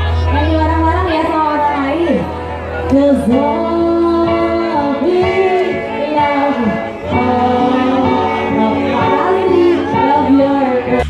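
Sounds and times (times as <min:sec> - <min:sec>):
live band playing: 0:00.0 - 0:11.0
woman singing: 0:00.2 - 0:11.0.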